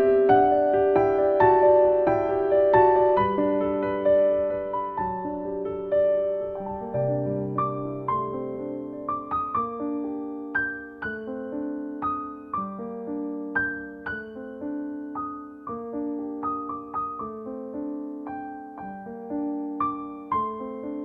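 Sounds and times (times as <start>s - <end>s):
gentle solo piano: 0.0s - 21.0s.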